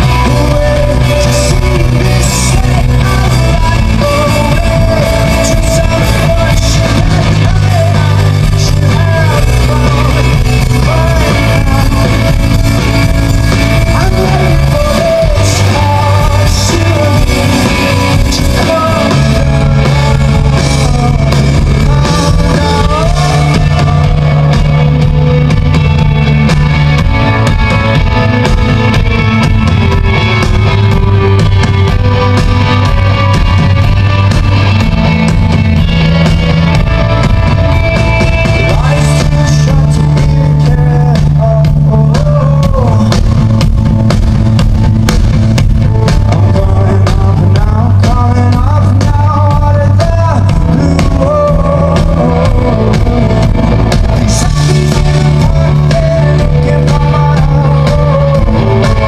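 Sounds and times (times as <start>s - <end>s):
man singing lead vocal: 0.0s - 30.4s, 31.9s - 44.2s, 46.0s - 59.0s
rock band playing live: 0.0s - 59.0s.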